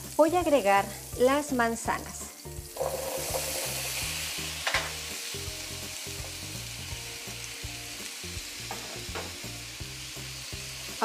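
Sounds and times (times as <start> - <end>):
apples sizzling in butter: 0.0 - 11.0.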